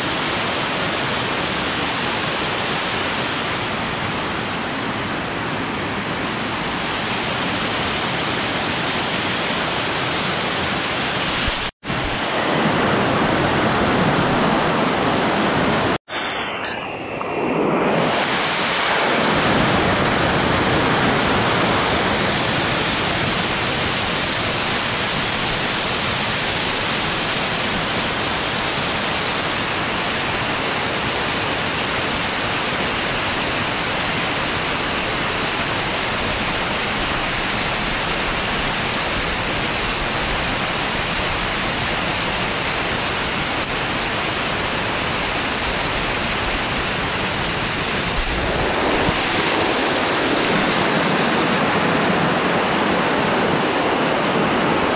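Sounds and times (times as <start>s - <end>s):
waterfall rushing: 0.0s - 16.3s, 17.9s - 54.9s.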